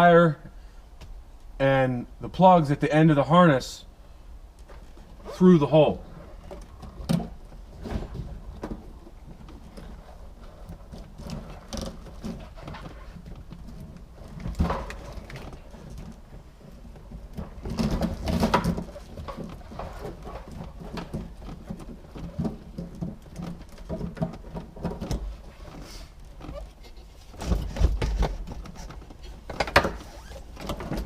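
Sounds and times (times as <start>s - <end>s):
wiring harness rubbing and rustling: 4.7s - 31.0s.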